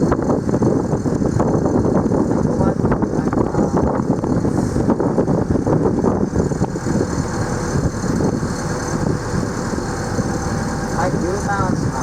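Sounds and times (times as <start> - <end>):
boat engine running: 0.0 - 12.0
continuous rushing noise: 0.0 - 12.0.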